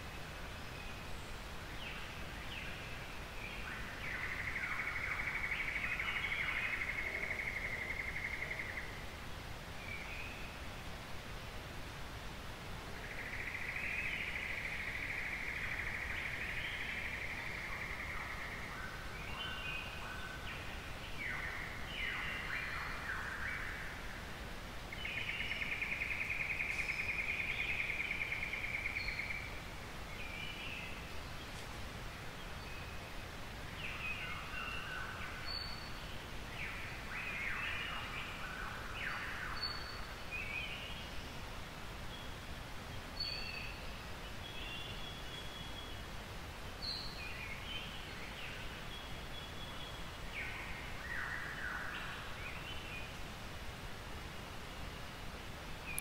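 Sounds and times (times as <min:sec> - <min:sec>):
low background noise: 0:00.0 - 0:56.0.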